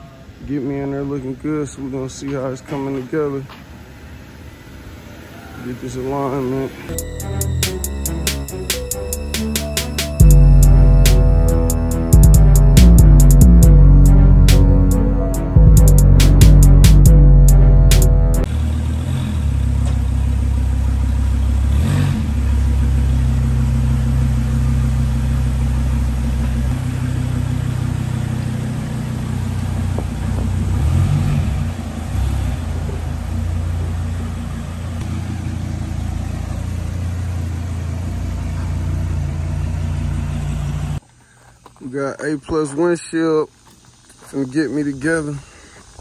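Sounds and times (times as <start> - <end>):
car engine rumbling: 0.0 - 41.7.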